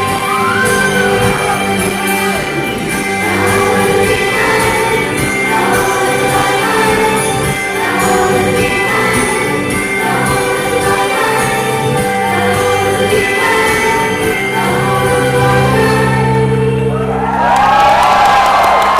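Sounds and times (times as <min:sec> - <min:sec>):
group singing pop song: 0:00.0 - 0:17.1.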